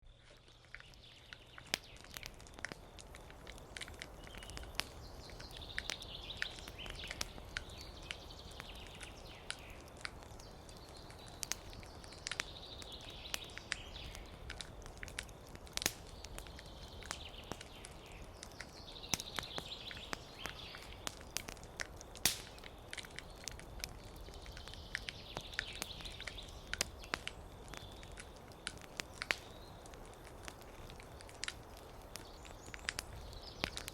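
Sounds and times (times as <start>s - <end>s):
campfire crackling: 0.0s - 33.9s
songbird singing: 0.0s - 33.9s.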